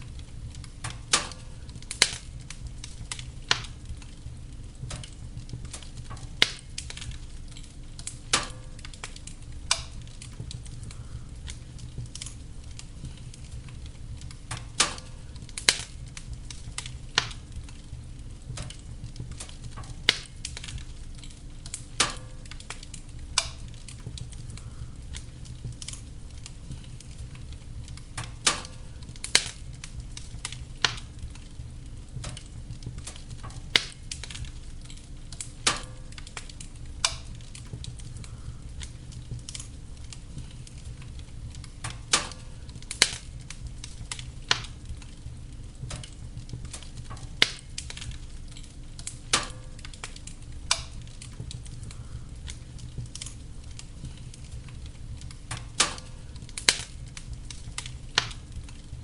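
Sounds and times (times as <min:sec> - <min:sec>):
fire crackling and popping: 0:00.0 - 0:59.0
fire low rumble: 0:00.0 - 0:59.0.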